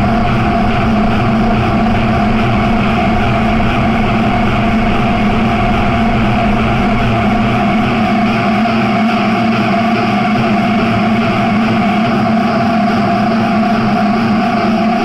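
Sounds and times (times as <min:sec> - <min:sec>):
synthesizer drone: 0:00.0 - 0:15.0.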